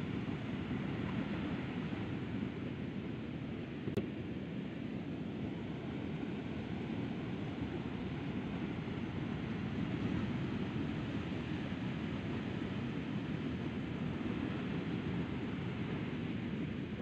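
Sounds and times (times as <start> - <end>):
surf waves breaking: 0.0 - 17.0.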